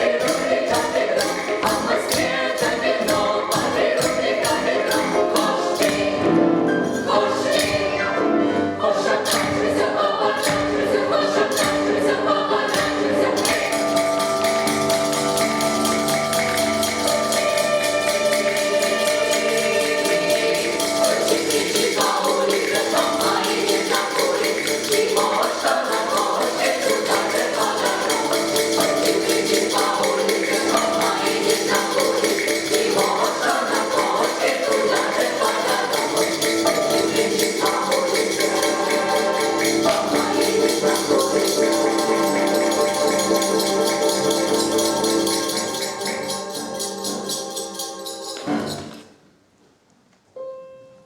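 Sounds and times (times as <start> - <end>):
choir singing: 0.0 - 49.1
tambourine rhythm: 0.0 - 49.1.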